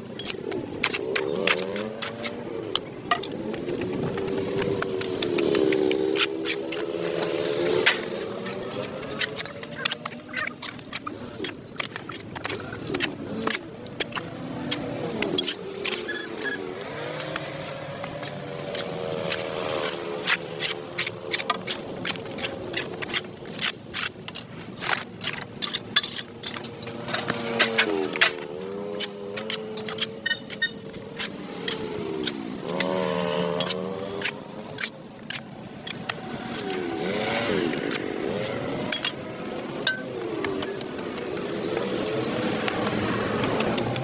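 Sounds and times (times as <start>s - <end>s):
metal tool scraping concrete: 0.2s - 41.5s.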